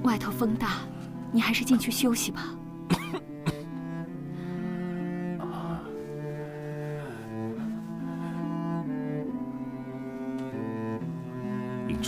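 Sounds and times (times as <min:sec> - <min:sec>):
slow bowed cello melody: 0:00.0 - 0:12.0.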